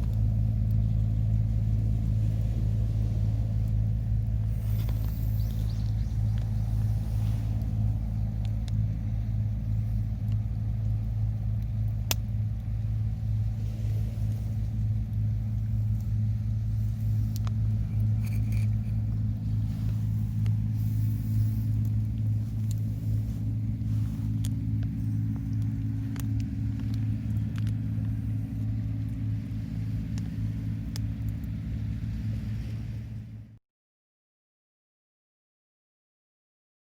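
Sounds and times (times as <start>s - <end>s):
low engine hum: 0.0s - 33.6s.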